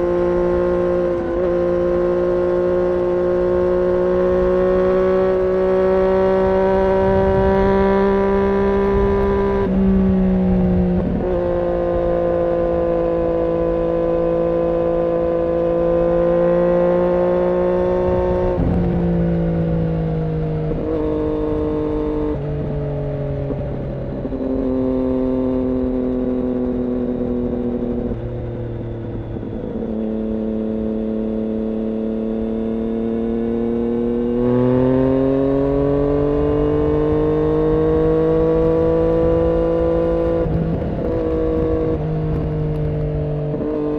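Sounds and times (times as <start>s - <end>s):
motorcycle engine at high revs: 0.0s - 43.9s.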